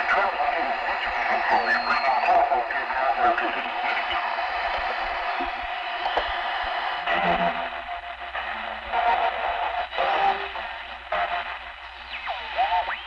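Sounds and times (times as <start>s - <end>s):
radio broadcast music: 0.0s - 13.0s
radio static hiss: 0.0s - 13.0s.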